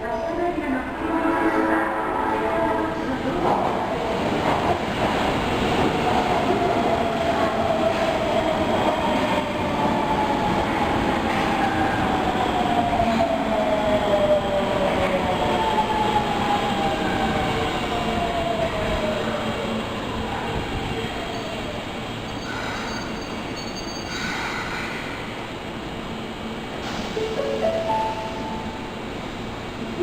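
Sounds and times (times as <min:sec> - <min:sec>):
subway train rolling: 0:00.0 - 0:30.0.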